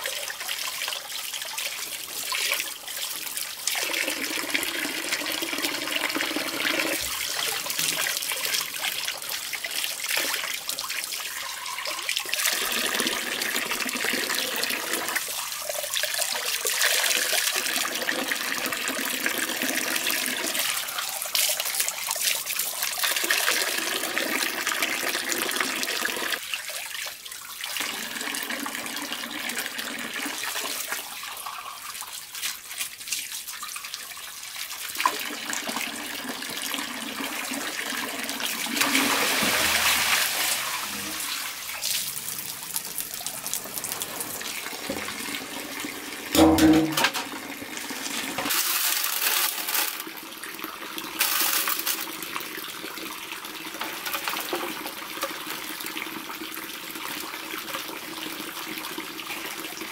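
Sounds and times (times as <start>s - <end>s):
water running and splashing: 0.0s - 59.9s.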